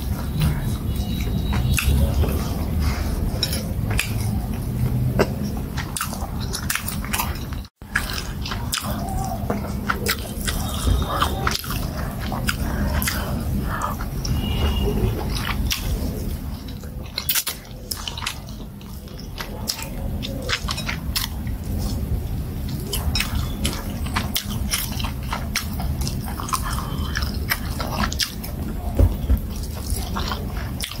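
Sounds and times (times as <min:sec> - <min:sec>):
wet chewing and lip smacks: 0:00.0 - 0:31.0.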